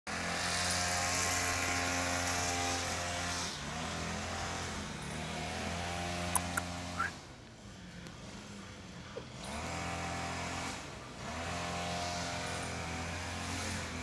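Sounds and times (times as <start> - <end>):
engine running: 0.1 - 14.0.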